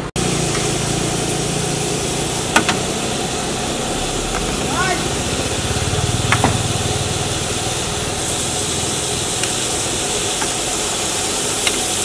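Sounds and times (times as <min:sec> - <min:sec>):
vegetables sizzling in a wok: 0:00.0 - 0:12.0
low hum: 0:00.2 - 0:10.2.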